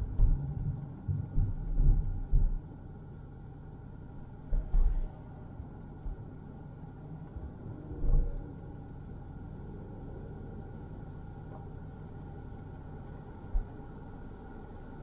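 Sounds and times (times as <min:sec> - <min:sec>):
car rumbling in traffic: 0:00.0 - 0:15.0.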